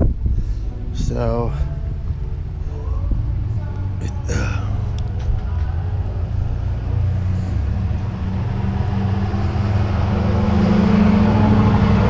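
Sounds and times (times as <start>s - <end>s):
road noise: 0.0s - 12.0s
vehicle engine hum: 0.0s - 12.0s.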